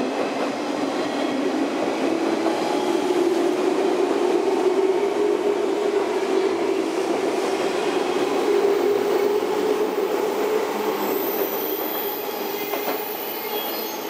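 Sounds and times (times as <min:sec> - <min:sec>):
electric train running hum: 0:00.0 - 0:14.0.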